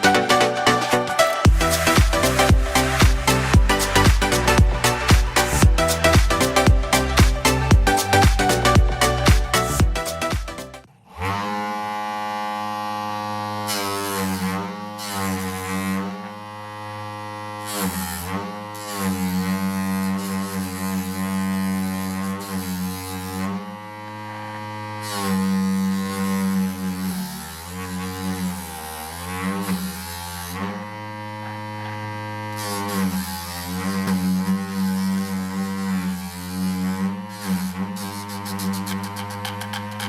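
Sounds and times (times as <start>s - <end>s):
sanding noise: 0.0s - 10.9s, 13.0s - 40.0s
sander motor humming: 0.0s - 40.0s.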